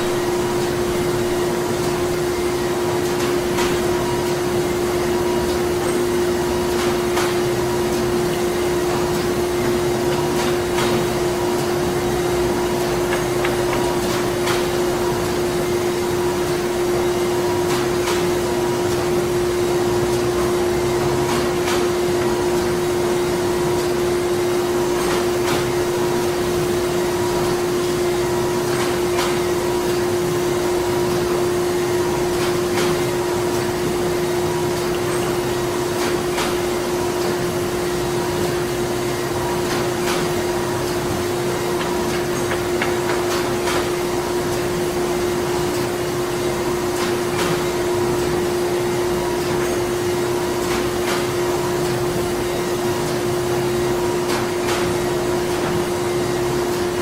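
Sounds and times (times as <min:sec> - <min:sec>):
printing machinery humming: 0:00.0 - 0:57.0.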